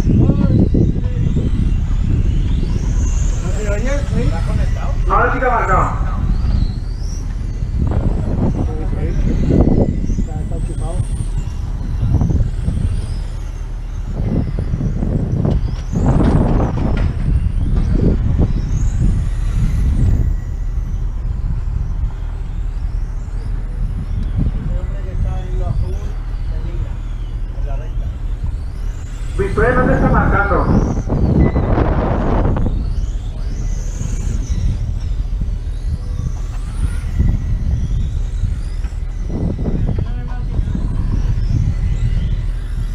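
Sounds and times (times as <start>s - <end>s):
heavy low rumble: 0.0s - 42.9s
motorcycle engines revving: 0.0s - 42.9s.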